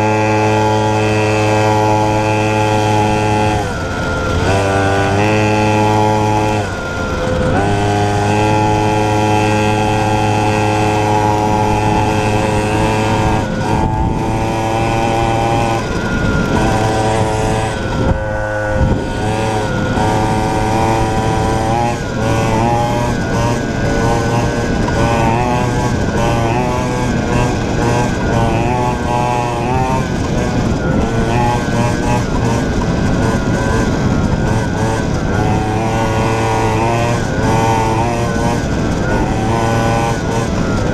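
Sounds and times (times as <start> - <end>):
two-stroke motorbike engine revving: 0.0 - 40.9.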